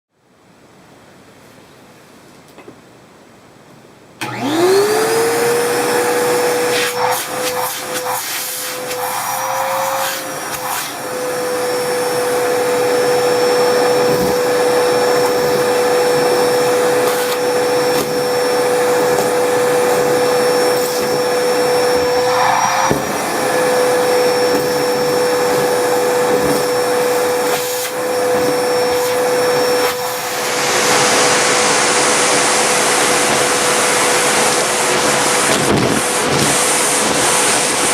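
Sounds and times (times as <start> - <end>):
vacuum cleaner motor whine: 4.2 - 37.9.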